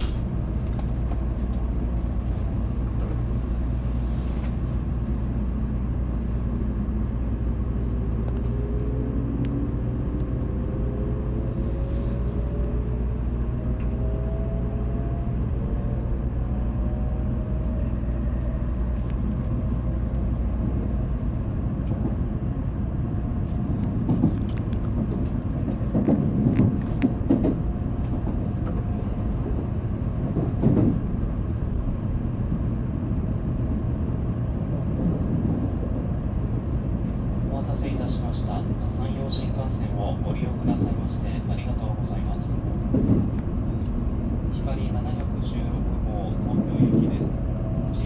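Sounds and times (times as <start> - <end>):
train running rumble: 0.0 - 48.0.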